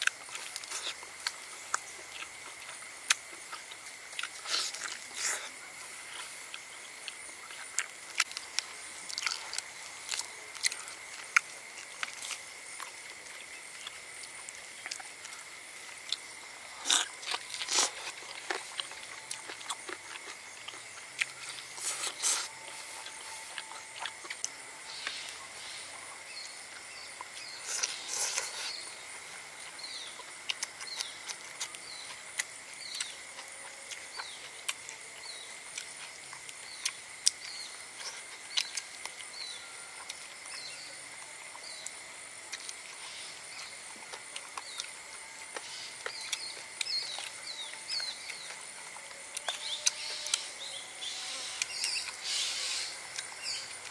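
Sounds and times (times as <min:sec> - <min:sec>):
wet chewing and lip-smacking: 0:00.0 - 0:25.4, 0:29.7 - 0:50.6, 0:53.1 - 0:53.9
insects droning: 0:00.0 - 0:53.9.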